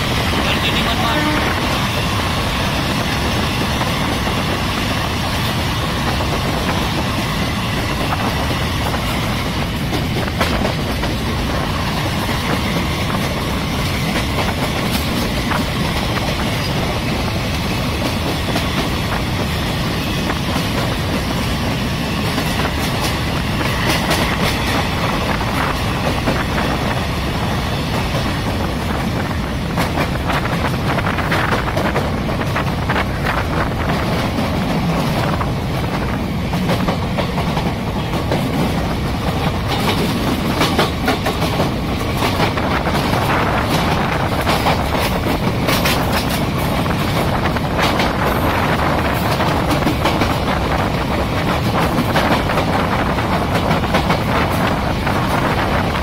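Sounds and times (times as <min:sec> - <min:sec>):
clickety-clack over rail joints: 0:00.0 - 0:56.0
train wheels rumbling on rails: 0:00.0 - 0:56.0.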